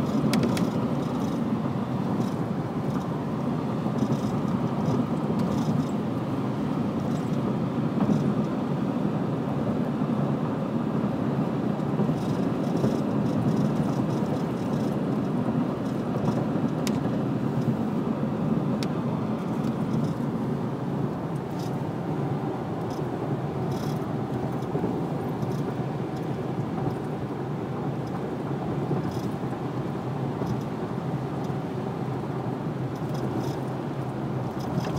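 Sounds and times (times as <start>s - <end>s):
car engine hum: 0.0s - 34.9s.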